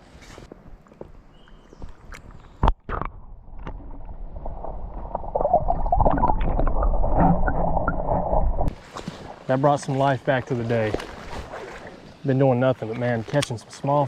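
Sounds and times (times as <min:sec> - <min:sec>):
creek water splashing: 0:01.5 - 0:13.4.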